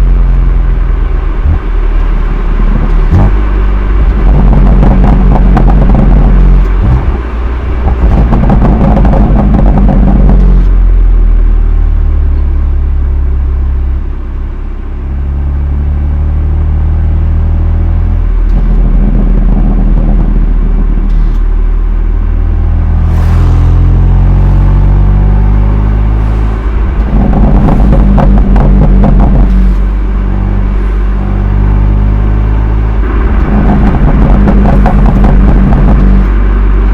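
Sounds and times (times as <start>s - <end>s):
car exhaust under load: 0.0s - 36.9s.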